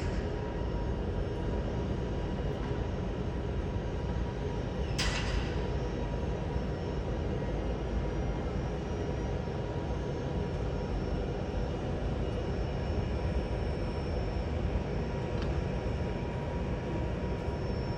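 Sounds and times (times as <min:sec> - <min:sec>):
faint jet engine whine: 0:00.0 - 0:17.9.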